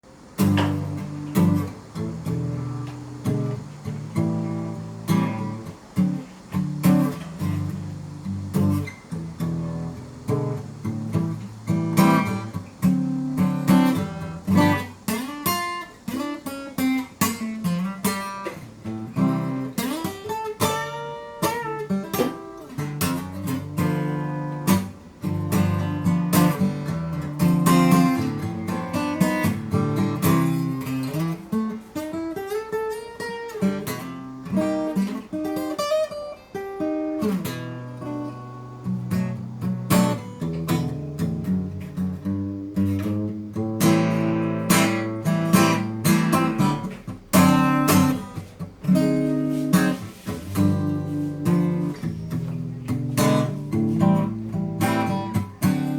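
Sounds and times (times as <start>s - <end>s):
acoustic guitar plucked and strummed: 0.0s - 55.9s.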